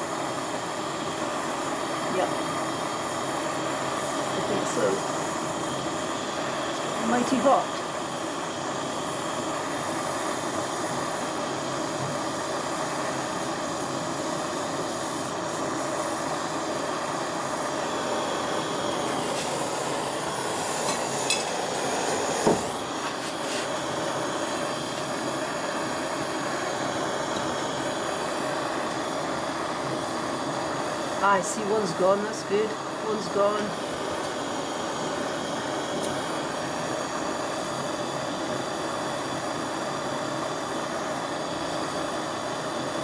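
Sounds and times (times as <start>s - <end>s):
torch flame hissing: 0.0s - 43.0s.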